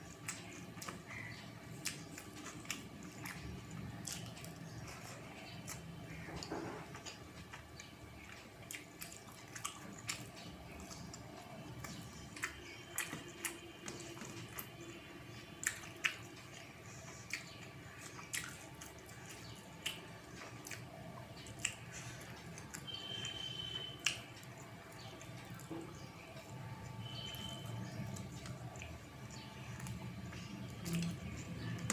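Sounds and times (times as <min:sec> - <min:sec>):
wet chewing and smacking: 0:00.0 - 0:31.9.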